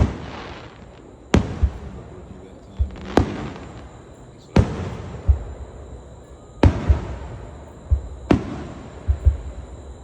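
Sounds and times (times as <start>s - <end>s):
fireworks bangs with crackling: 0.0s - 10.0s
deep thuds: 1.3s - 9.8s.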